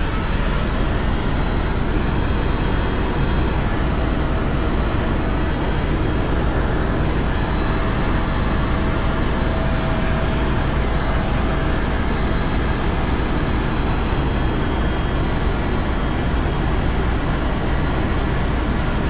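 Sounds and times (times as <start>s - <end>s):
faint steady whine: 0.0s - 19.0s
helicopter rotor and engine drone: 0.0s - 19.0s.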